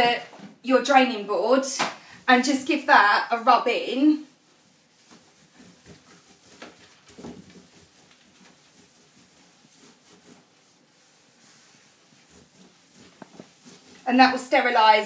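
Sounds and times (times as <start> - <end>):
cloth rubbing on steel sink: 0.0 - 15.0.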